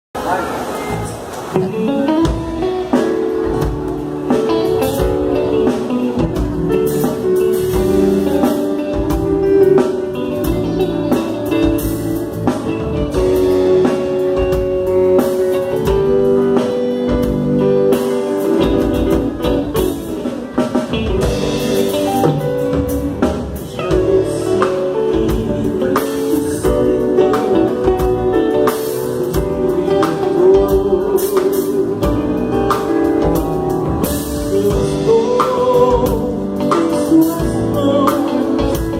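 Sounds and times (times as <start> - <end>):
band playing: 0.2 - 38.9
drum kit: 0.2 - 38.9
guitar: 0.2 - 38.9.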